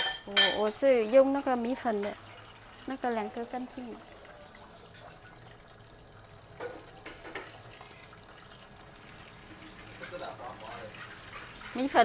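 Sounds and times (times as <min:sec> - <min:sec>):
tap running water: 0:00.0 - 0:12.0.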